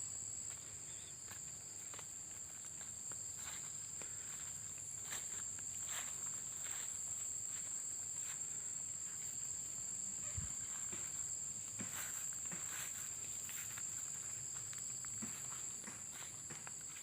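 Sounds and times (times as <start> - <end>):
footsteps in undergrowth: 0.4 - 17.0.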